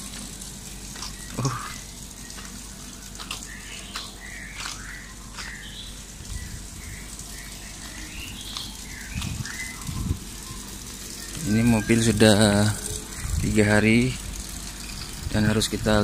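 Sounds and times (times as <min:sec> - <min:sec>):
birds chirping: 0:00.0 - 0:16.0
steady low hum: 0:00.0 - 0:16.0.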